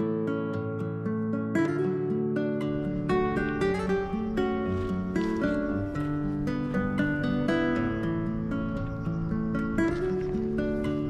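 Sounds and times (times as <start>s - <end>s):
acoustic guitar background music: 0.0s - 11.0s.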